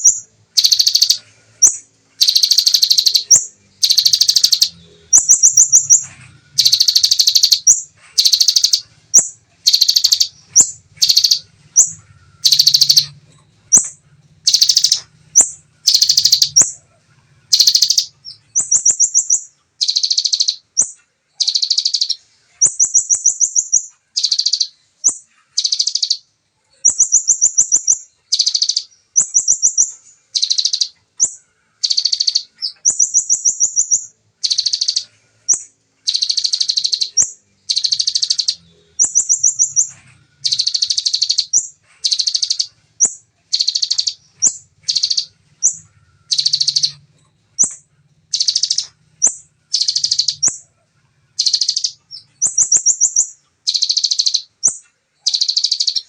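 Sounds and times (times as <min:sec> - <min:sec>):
bird singing trilled bursts: 0:00.0 - 0:56.0.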